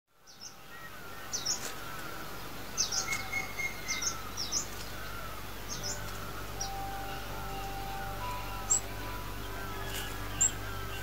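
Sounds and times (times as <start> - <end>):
outdoor ambience hiss: 0.1 - 11.0
bird chirping: 0.2 - 11.0.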